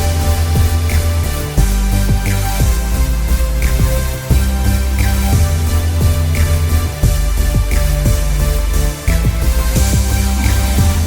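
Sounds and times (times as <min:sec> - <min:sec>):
music with steady beat and bass: 0:00.0 - 0:11.0.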